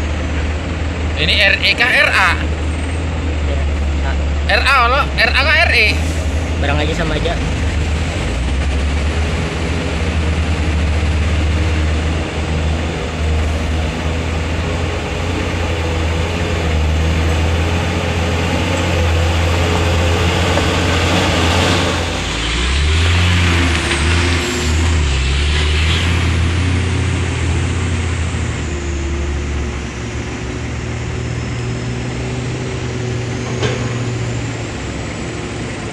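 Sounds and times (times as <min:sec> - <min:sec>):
diesel truck engine driving past: 0:00.0 - 0:35.9.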